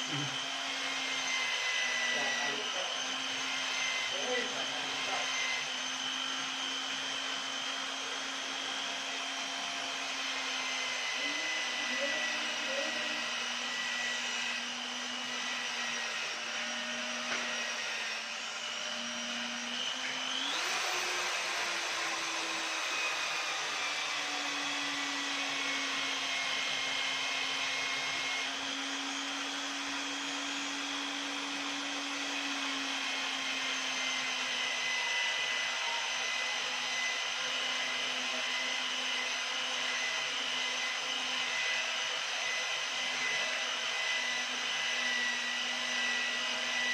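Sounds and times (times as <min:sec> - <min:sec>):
small electric motor whining: 0:00.0 - 0:46.9.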